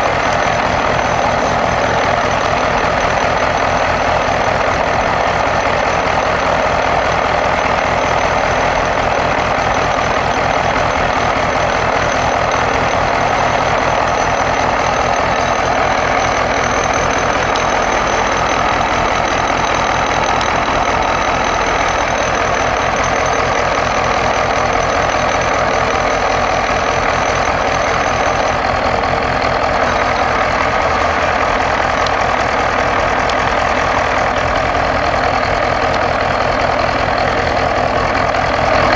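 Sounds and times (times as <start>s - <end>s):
old engine running: 0.0s - 38.9s
thin high whine: 0.0s - 38.9s.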